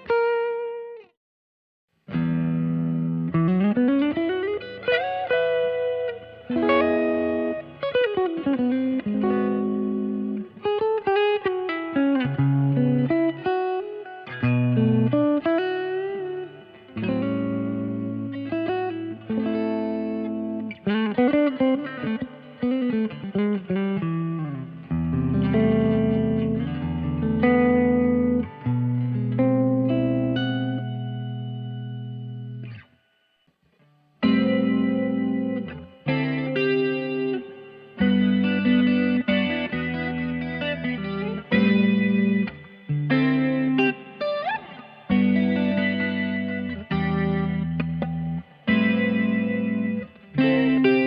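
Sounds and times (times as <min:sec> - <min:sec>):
electric guitar through amp: 0:02.1 - 0:33.4, 0:34.2 - 0:51.0.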